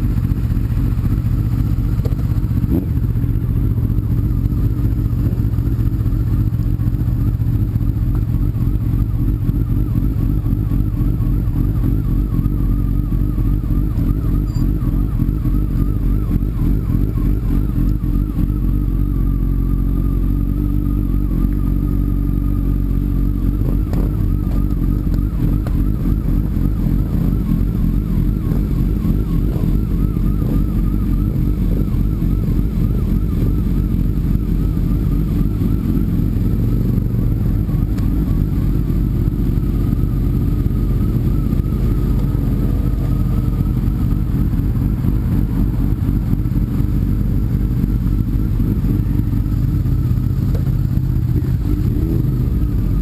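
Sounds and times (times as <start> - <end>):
motorcycle engine while riding: 0.0 - 53.0.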